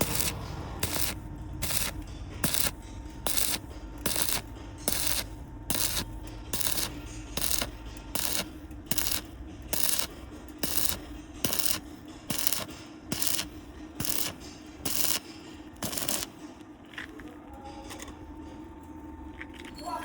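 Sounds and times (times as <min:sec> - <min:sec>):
rhythmic scraping strokes: 0:00.0 - 0:17.0.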